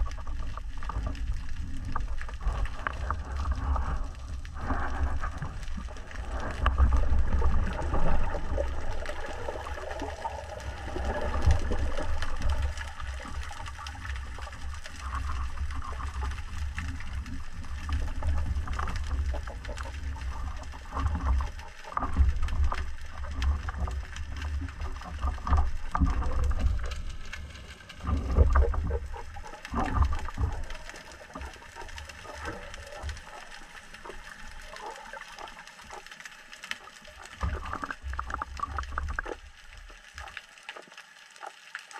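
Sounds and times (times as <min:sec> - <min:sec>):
underwater rumble of moving water: 0:00.0 - 0:41.9.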